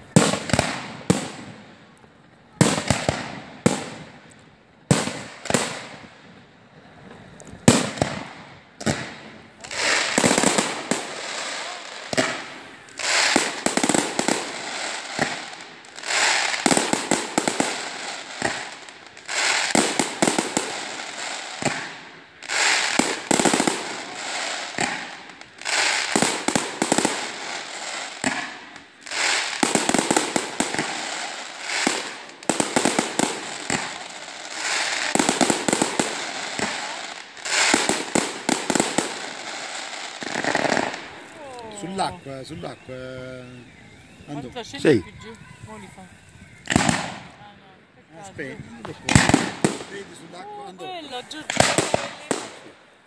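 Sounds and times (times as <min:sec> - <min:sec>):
fireworks crackling and popping: 0:00.0 - 0:53.0.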